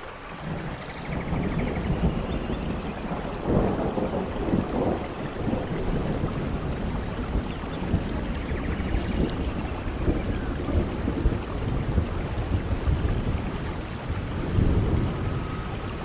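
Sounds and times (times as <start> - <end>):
low thunder rumble: 0.0 - 16.0
steady rain: 0.0 - 16.0.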